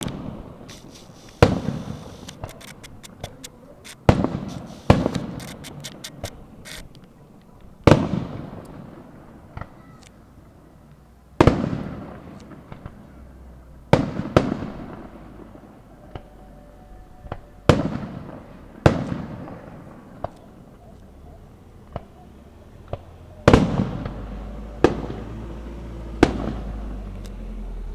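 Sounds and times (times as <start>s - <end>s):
fireworks bangs with echoing rumble: 0.0s - 7.0s, 7.7s - 27.4s
small crackling pops: 0.0s - 13.2s, 17.2s - 27.7s.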